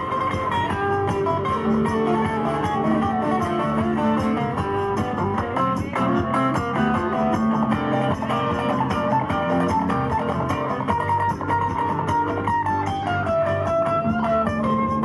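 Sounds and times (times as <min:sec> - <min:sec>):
country band playing: 0:00.0 - 0:15.0.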